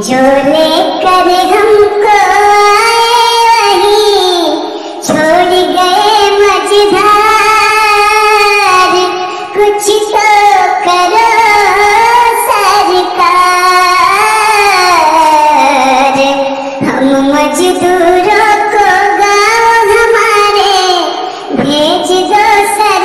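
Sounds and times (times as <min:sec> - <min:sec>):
high-pitched voice singing: 0:00.0 - 0:23.0.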